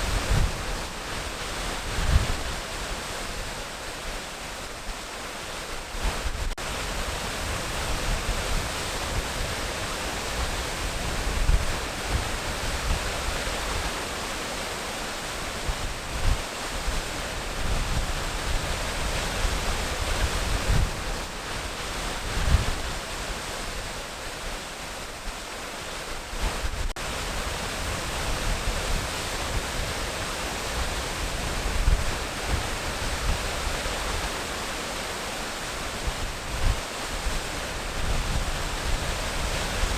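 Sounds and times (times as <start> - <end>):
waterfall rushing: 0.0 - 39.9
wind on microphone: 0.0 - 39.9.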